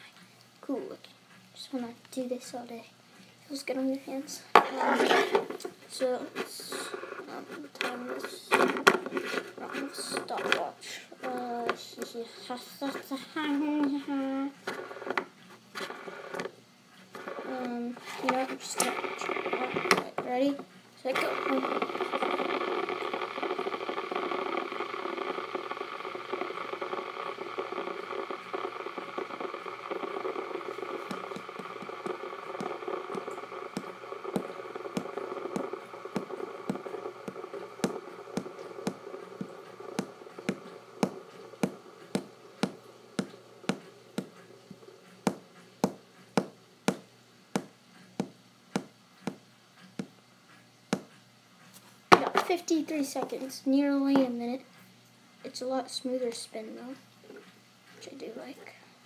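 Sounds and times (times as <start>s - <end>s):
fidget spinner bearing whir: 3.5s - 58.8s.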